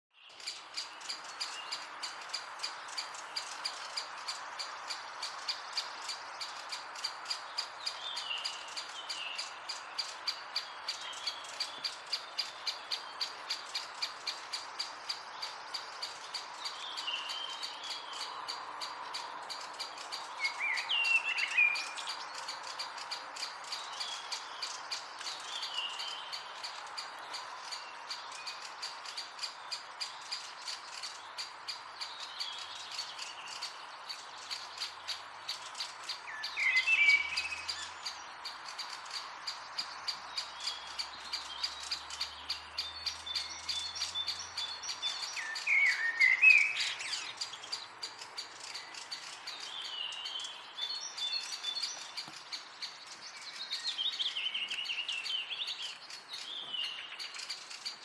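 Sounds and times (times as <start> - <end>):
songbirds chirping: 0.1 - 58.0
woodpecker ticking calls: 0.1 - 58.0.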